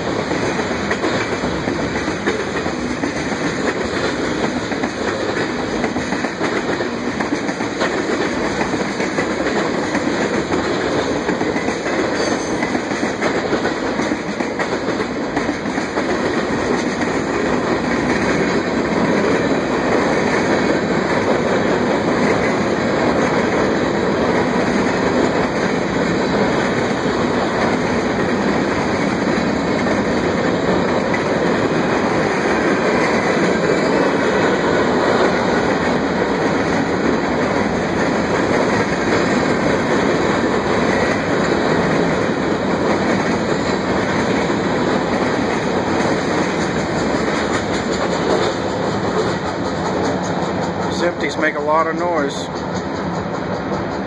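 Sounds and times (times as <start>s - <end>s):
steel wheels on rails: 0.0s - 54.0s.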